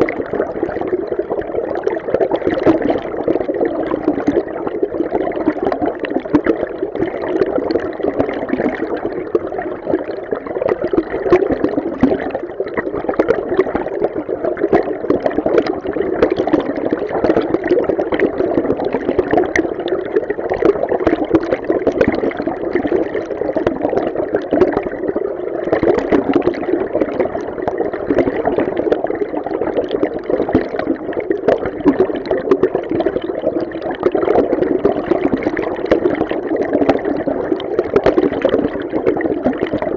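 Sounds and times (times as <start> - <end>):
fine crackling and bubbling: 0.0 - 39.9
muffled underwater rush of water: 0.0 - 39.9.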